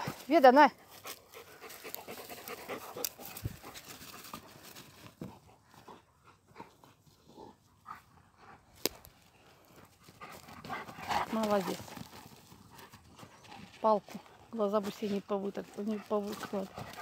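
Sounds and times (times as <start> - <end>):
dogs panting: 0.7 - 17.0.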